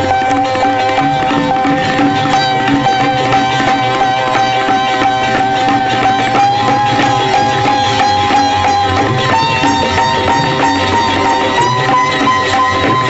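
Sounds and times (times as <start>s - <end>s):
instrumental melody line: 0.0s - 13.0s
percussion rhythm: 0.0s - 13.0s
steady held drone tone: 0.0s - 13.0s.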